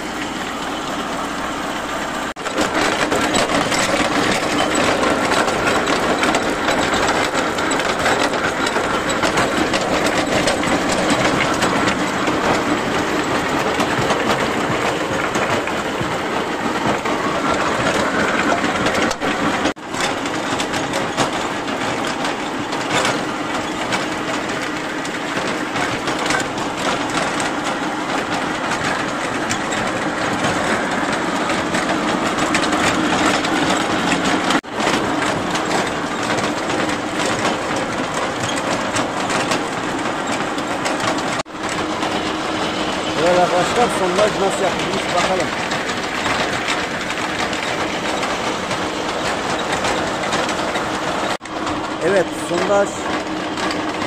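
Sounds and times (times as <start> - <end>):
drilling rig clattering: 0.0 - 54.0.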